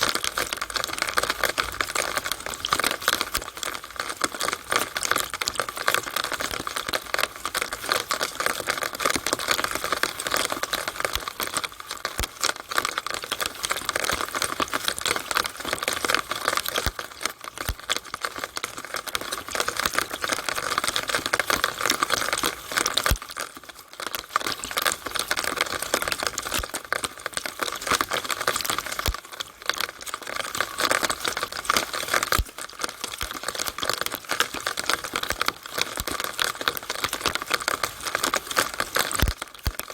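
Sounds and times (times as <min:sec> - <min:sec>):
rainwater splashing from downspout: 0:00.0 - 0:39.9.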